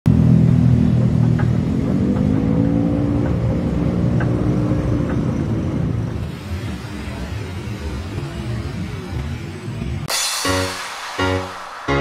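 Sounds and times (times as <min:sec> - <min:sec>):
vehicle motor humming: 0:00.2 - 0:10.1.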